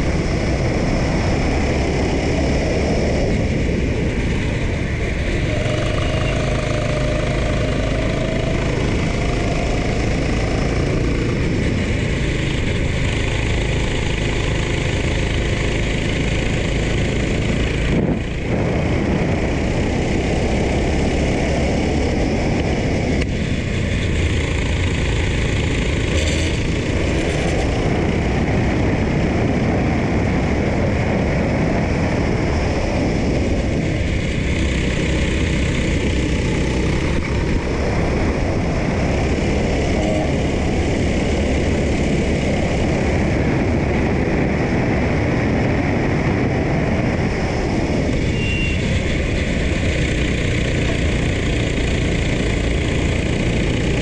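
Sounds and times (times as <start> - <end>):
kart engine revving: 0.0 - 54.0
wind on microphone: 0.0 - 54.0.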